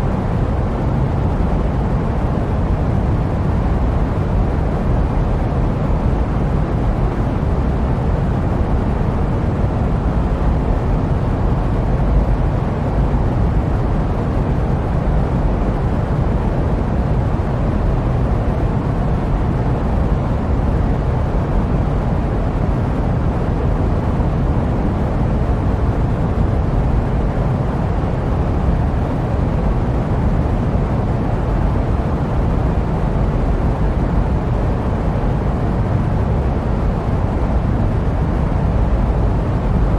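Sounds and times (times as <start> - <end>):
jet cabin low rumble: 0.0 - 39.9.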